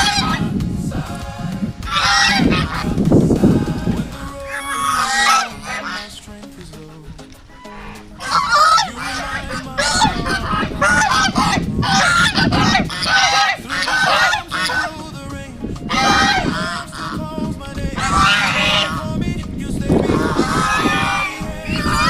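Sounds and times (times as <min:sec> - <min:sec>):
geese honking: 0:00.0 - 0:19.2, 0:19.9 - 0:22.0.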